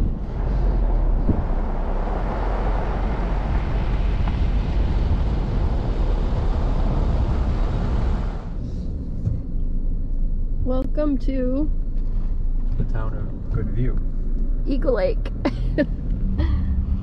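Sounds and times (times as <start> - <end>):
car engine rumble: 0.0 - 17.0
wind and tyre noise: 0.0 - 17.0.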